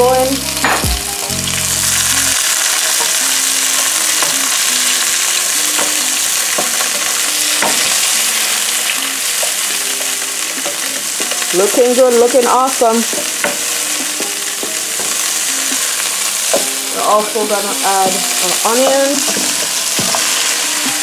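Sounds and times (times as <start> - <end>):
peppers sizzling in skillet: 0.0 - 21.0.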